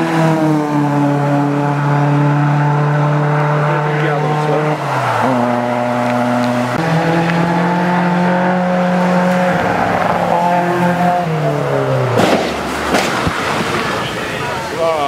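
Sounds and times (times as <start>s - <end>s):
racing car engine at full throttle: 0.0s - 15.0s.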